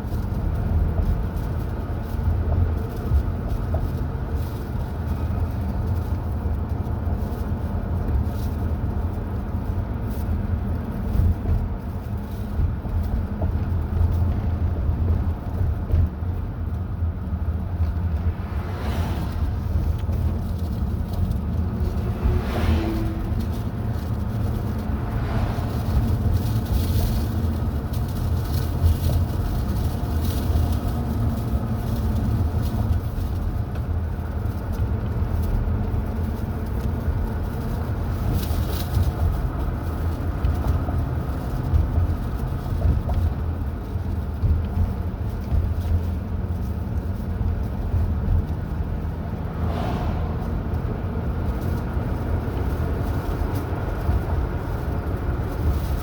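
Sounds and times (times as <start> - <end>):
car driving on highway: 0.0 - 56.0.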